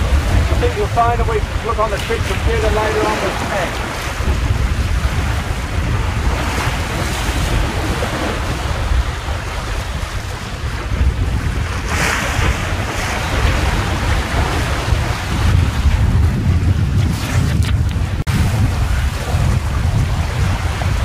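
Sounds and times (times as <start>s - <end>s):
water rushing past boat hull: 0.0s - 21.0s
wind buffeting microphone: 0.0s - 21.0s.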